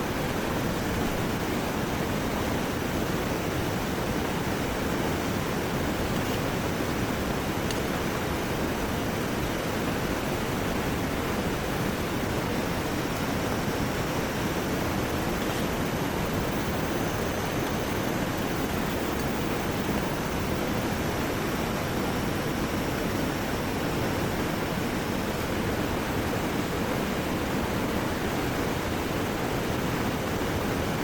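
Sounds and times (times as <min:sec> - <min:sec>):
heavy rain: 0:00.0 - 0:31.0
river water flowing: 0:00.0 - 0:31.0.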